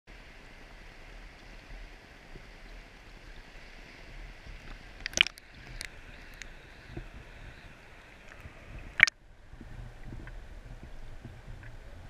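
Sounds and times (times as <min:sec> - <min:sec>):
river water over stones: 0:00.1 - 0:12.0.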